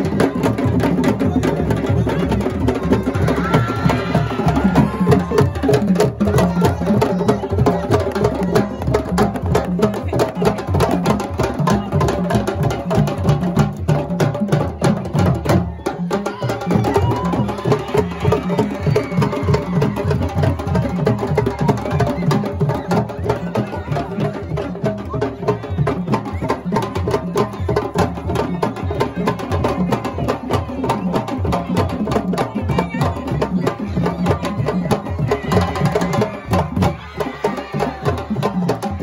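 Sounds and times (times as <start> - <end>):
crowd voices: 0.0 - 39.0
hand drums playing fast rhythms: 0.0 - 39.0.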